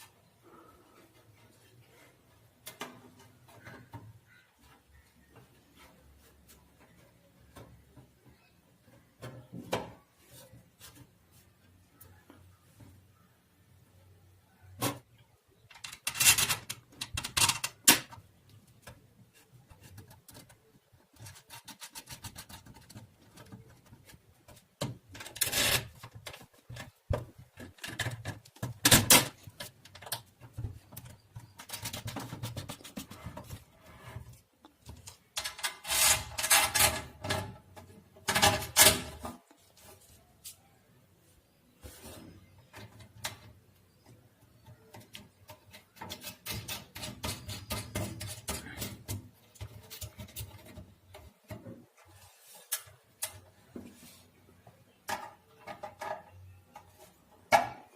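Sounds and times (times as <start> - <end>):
rubbing and scraping of electronic parts: 0.0 - 13.2, 14.7 - 57.9.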